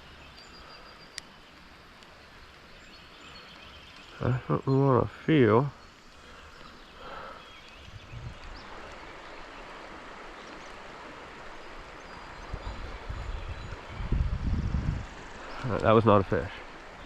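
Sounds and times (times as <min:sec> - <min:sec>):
creek running: 0:00.0 - 0:17.0
rain: 0:00.0 - 0:17.0.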